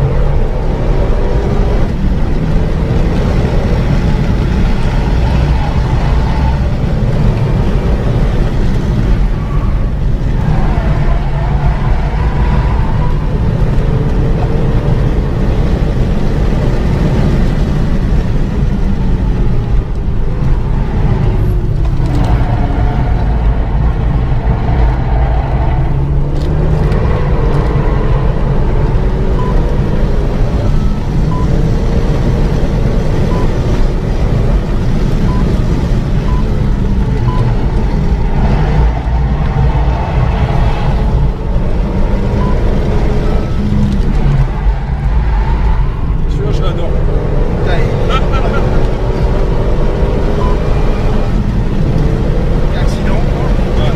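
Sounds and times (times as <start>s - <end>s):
car engine revving: 0.0s - 53.9s
road noise: 0.0s - 53.9s.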